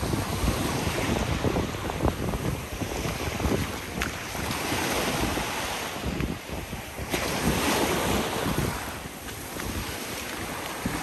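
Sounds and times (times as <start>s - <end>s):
sea waves washing onto shore: 0.0s - 11.0s
wind buffeting microphone: 0.0s - 11.0s.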